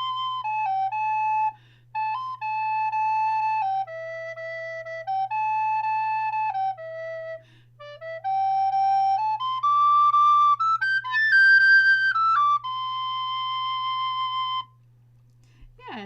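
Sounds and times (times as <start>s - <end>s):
soprano recorder melody: 0.0s - 14.9s.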